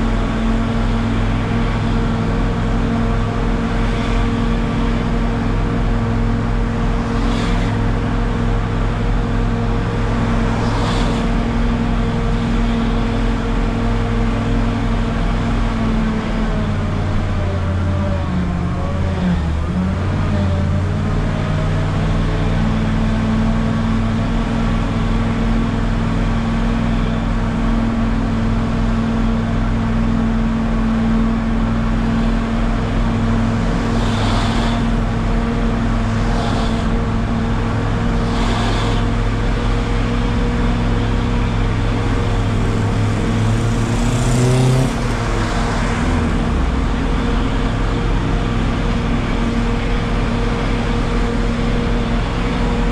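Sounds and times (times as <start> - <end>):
bus engine running: 0.0 - 52.9.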